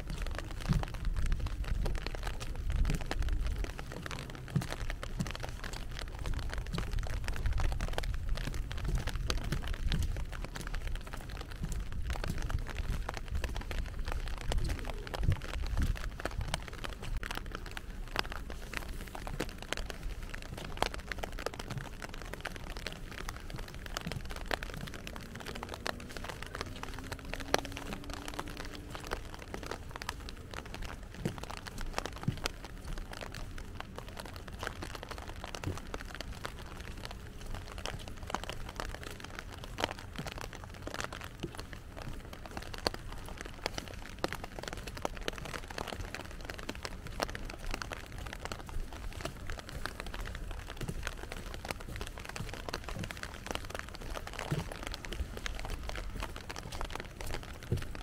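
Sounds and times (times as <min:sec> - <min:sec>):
low rumble: 0:00.0 - 0:58.0
rain patter: 0:00.0 - 0:58.0.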